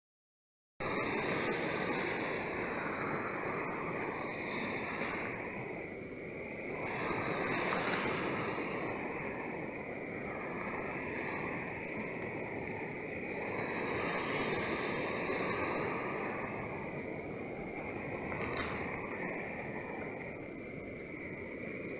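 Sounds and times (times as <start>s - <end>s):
sea waves breaking: 0.8s - 21.9s.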